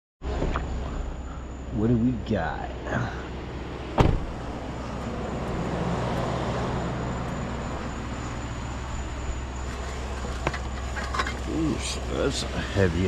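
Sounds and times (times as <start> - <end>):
low steady hum: 0.2 - 13.0
vehicle and road noise: 0.2 - 13.0.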